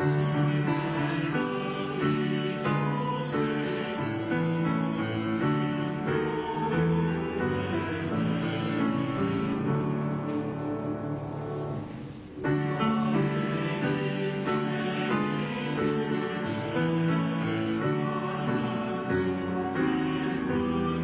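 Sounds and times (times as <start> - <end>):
hymn on piano: 0.0 - 21.0
voices singing held notes: 0.0 - 21.0.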